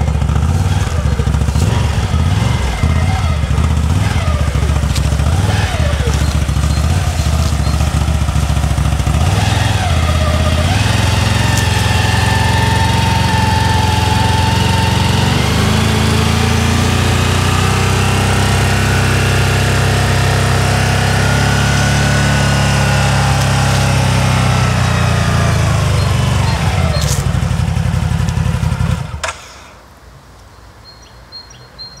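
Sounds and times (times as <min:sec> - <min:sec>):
atv engine revving: 0:00.0 - 0:29.7.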